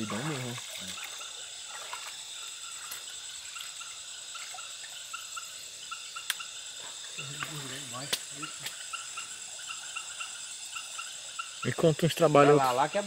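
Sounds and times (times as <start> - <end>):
frogs chirping: 0.0 - 13.0
insects trilling: 0.0 - 13.0.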